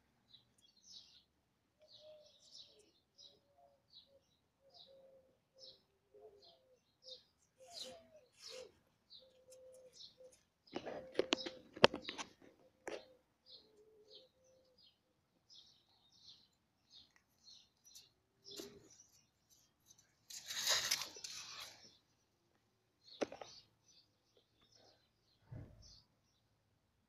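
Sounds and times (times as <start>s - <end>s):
small birds chirping: 0.0s - 26.6s.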